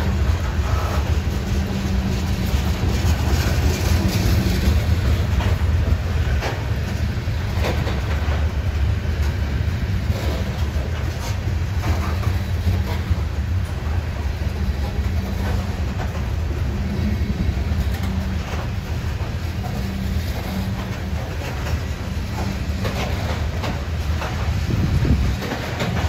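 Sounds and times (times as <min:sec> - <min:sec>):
freight train rumbling past: 0:00.0 - 0:26.0
wheels clacking over rail joints: 0:00.0 - 0:26.0.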